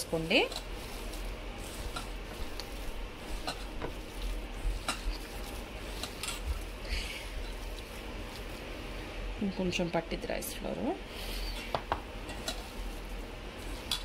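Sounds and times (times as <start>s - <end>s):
hand mixing wet batter: 0.0s - 14.0s.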